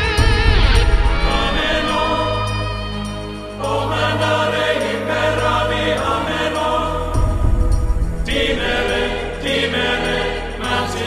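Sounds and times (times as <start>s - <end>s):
choir singing held chords: 0.0s - 11.0s
steady low bass: 0.0s - 11.0s.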